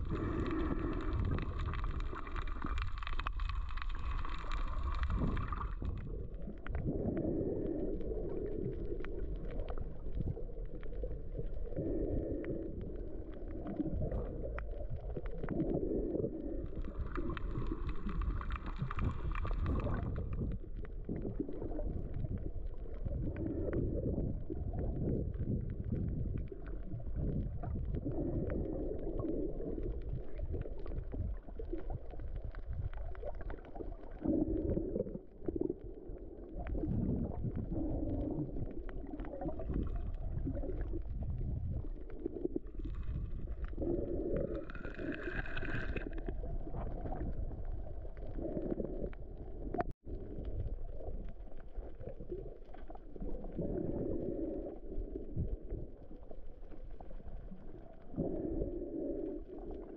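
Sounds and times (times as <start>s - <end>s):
faint crackling: 0.0s - 59.9s
underwater rumble of moving water: 0.0s - 59.9s.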